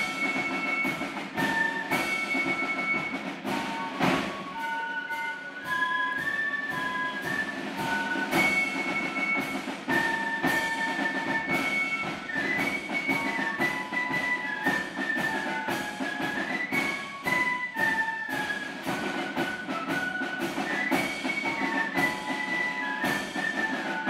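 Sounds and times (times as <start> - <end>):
flutes playing melody: 0.0 - 24.0
steady drum beats: 0.0 - 24.0.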